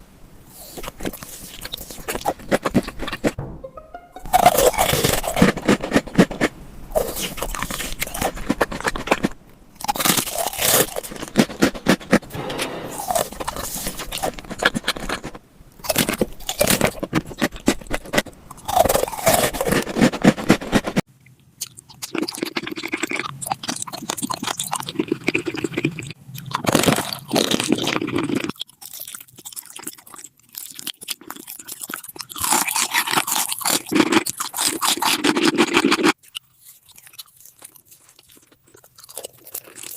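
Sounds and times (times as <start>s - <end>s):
crunching and chewing food: 0.5s - 3.4s, 4.8s - 12.3s, 13.3s - 39.9s.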